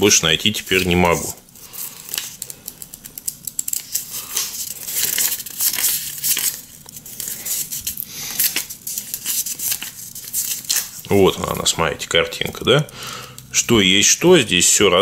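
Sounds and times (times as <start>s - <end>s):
paper pages flipping: 0.0s - 12.9s.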